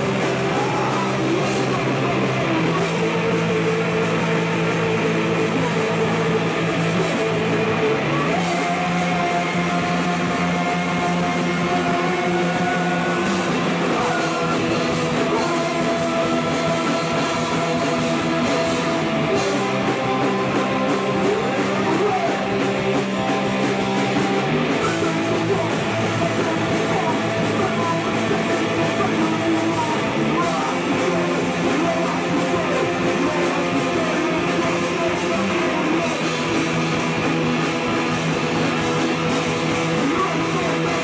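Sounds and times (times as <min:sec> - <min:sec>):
distorted electric guitar: 0:00.0 - 0:41.0
drums with crashing cymbals: 0:00.0 - 0:41.0
man singing into microphone: 0:00.0 - 0:41.0.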